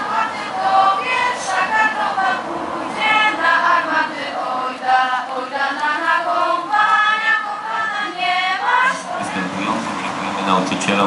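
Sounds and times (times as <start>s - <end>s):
choir singing long held notes: 0.0s - 11.0s.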